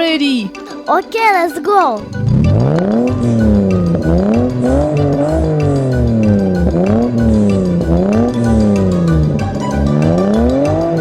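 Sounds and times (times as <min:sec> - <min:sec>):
children's music with steady beat: 0:00.0 - 0:11.0
tractor engine revving: 0:02.0 - 0:11.0.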